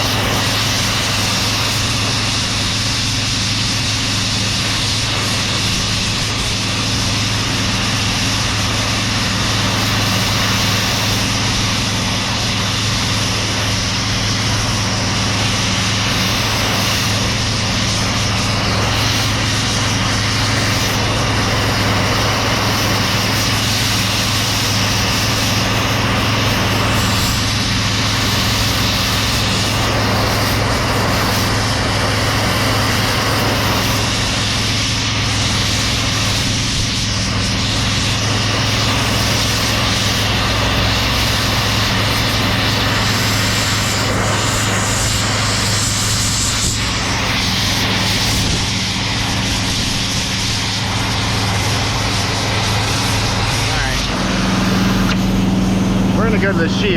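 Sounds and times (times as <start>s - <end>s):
machinery humming: 0.0s - 56.9s.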